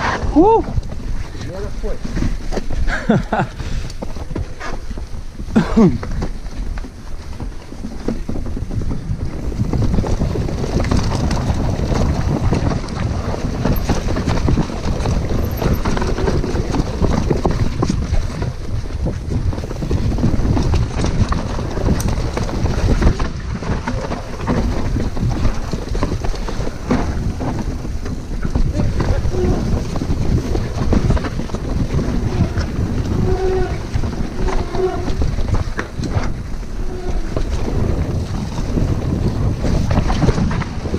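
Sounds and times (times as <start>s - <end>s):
bike rattling and knocking: 0.0s - 40.9s
tyres crunching over dirt: 0.0s - 40.9s
wind rumble on microphone: 0.0s - 40.9s.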